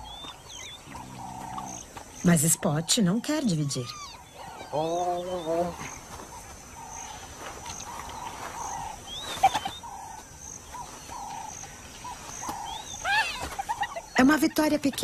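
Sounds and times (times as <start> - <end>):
animal calls: 0.0 - 15.0.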